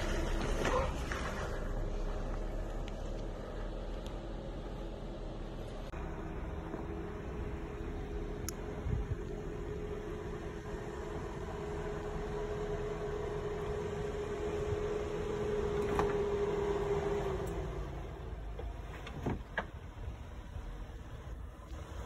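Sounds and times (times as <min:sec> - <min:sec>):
car engine at low revs: 0:00.0 - 0:22.0.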